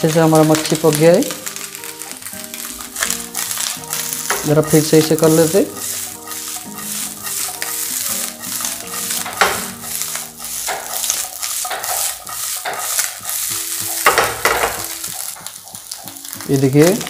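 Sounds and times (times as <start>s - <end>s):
fish sizzling in oil: 0.0s - 17.0s
spatula scraping a pan: 0.0s - 17.0s.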